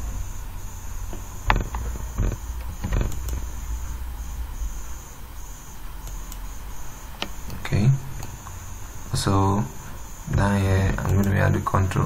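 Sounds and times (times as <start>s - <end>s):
faint high-pitched chirring: 0.0s - 12.0s
steady low hum: 0.0s - 12.0s.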